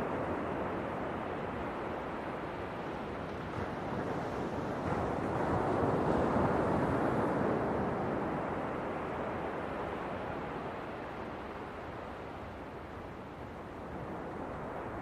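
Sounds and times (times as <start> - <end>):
ocean surf washing on shore: 0.0 - 15.0.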